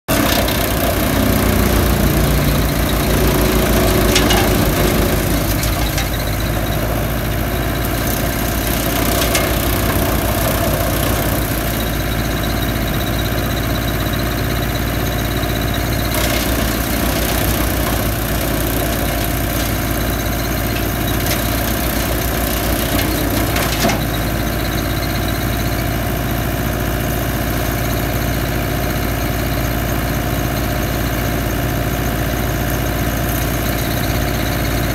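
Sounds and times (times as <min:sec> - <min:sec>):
wood chipper running: 0:00.1 - 0:34.9.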